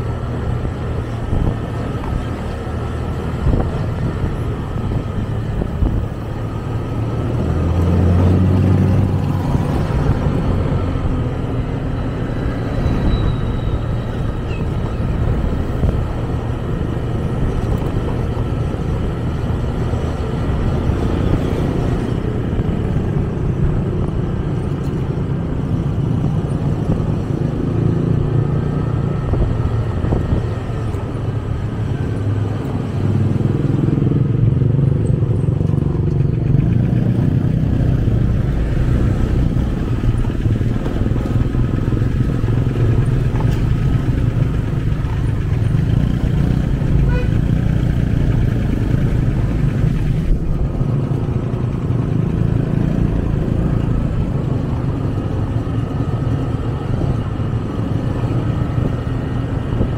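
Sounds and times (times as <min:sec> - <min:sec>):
road vehicle engine and road noise: 0:00.0 - 0:59.9.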